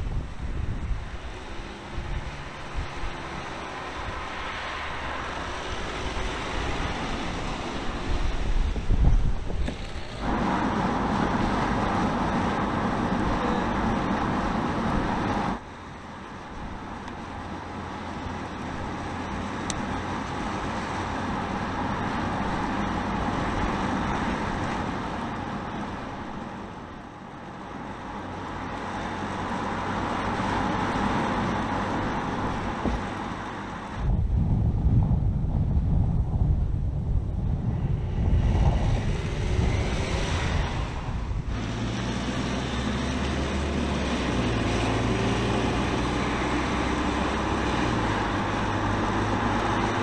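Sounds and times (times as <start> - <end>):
van engine and tyre noise: 0.0 - 50.0.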